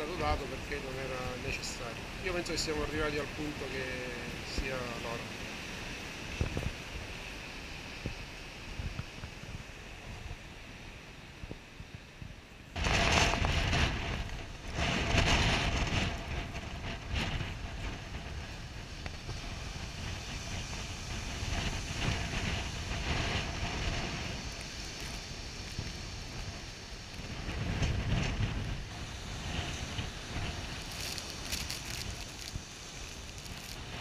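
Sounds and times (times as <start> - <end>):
storm waves breaking: 0.0 - 34.0
wind buffeting the microphone: 0.0 - 34.0.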